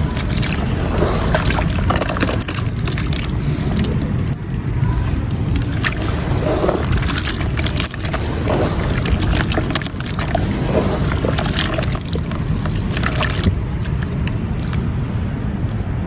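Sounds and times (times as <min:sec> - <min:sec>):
crumbles crackling in water: 0:00.0 - 0:15.2
steady low rumble: 0:00.0 - 0:16.0.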